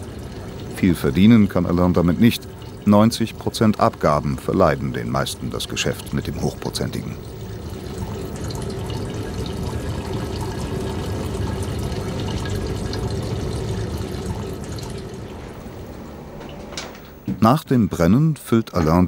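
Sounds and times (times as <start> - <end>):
thin stream of liquid running: 0.0 - 18.0.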